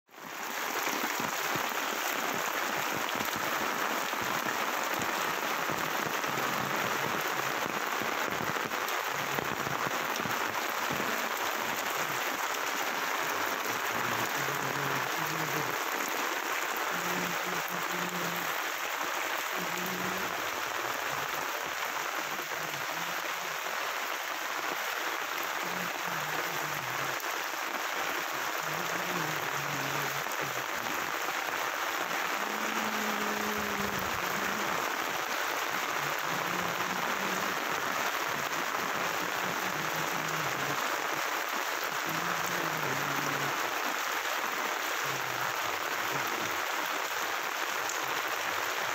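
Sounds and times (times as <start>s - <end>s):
heavy rain on standing water: 0.0s - 48.9s.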